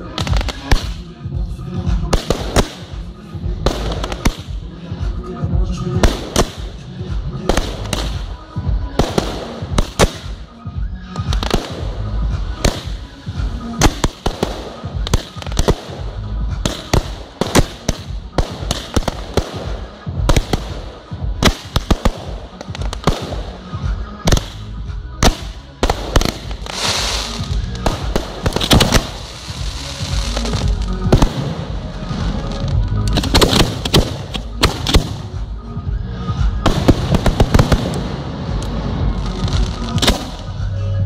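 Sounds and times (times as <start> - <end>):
fireworks launching and bursting: 0.0 - 40.7.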